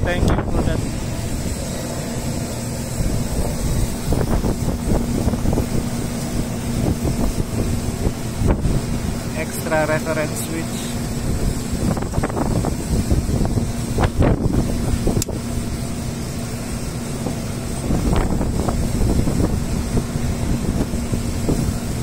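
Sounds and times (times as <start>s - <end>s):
steady low hum: 0.0s - 22.0s
wind buffeting microphone: 0.0s - 22.0s.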